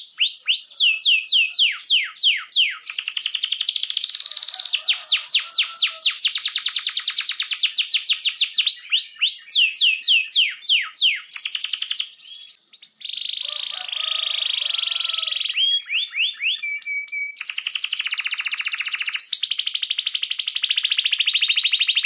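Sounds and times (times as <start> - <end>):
canary singing: 0.0 - 22.0.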